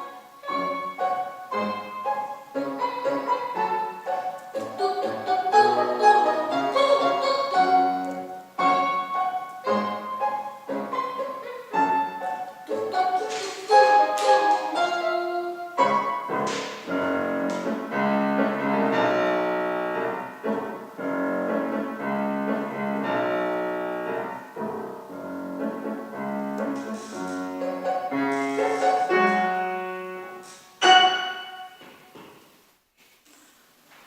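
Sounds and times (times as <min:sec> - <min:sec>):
piano melody with chords: 0:00.0 - 0:31.8.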